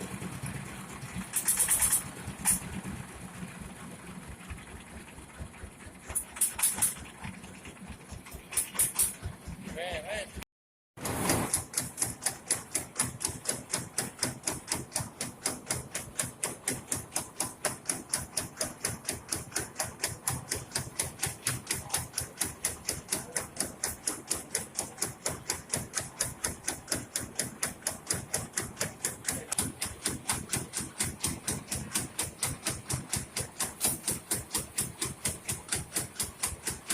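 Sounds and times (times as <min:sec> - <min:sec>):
rice-milling machine clacking: 0:01.2 - 0:02.8, 0:05.9 - 0:07.3, 0:08.1 - 0:09.8, 0:11.0 - 0:36.9.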